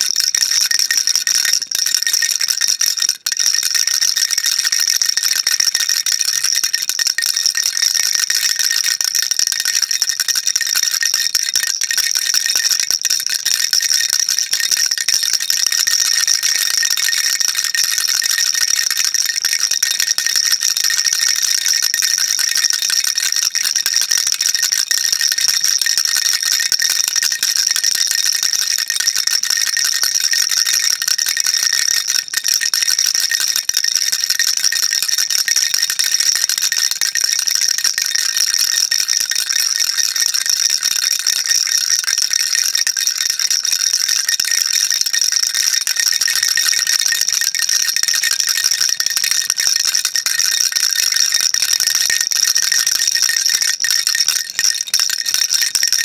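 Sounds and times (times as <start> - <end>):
baby rattle shaking: 0.0 - 22.8, 23.4 - 36.7, 39.8 - 41.2, 42.0 - 50.6.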